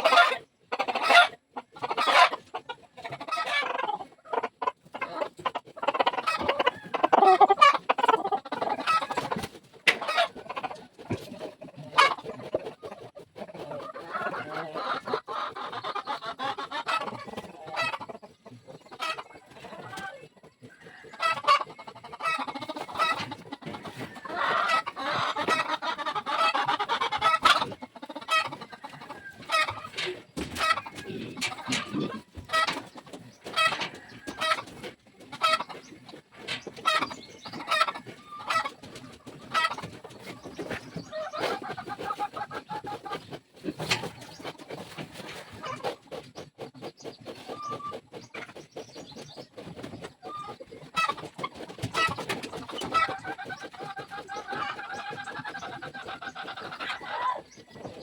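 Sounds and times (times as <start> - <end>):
chickens clucking: 0.0 - 58.0
farm animals calling: 0.0 - 58.0.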